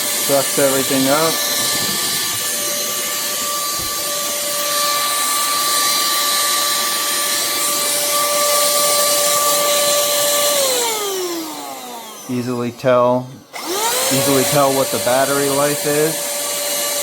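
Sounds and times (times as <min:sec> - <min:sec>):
handheld vacuum running: 0:00.0 - 0:17.0
vacuum motor spinning down: 0:00.0 - 0:17.0.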